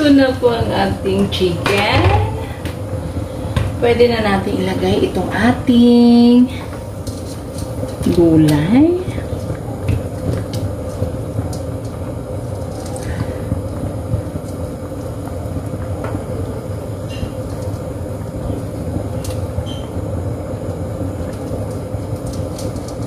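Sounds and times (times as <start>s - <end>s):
kitchen stove rumble and hum: 0.0s - 23.0s.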